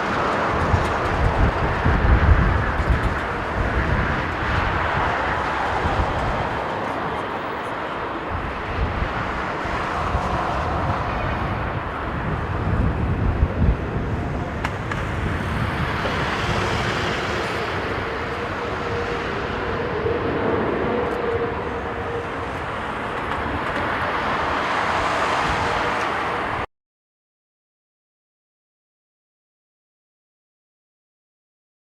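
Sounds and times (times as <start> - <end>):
jet engine noise: 0.0 - 26.7
wind buffeting microphone: 0.0 - 26.7.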